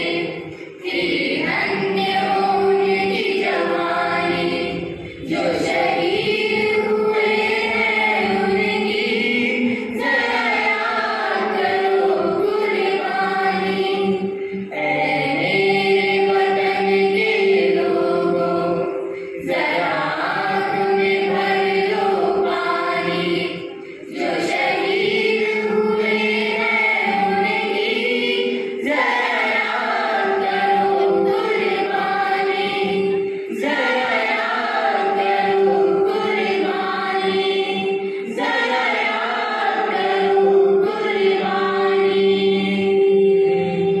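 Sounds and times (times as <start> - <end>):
group singing into microphones: 0.0 - 44.0.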